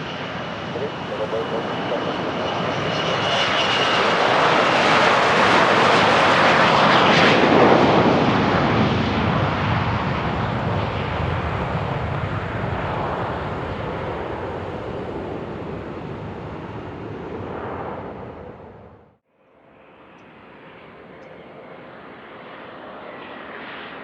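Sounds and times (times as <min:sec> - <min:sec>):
jet engines roaring past: 0:00.0 - 0:24.0.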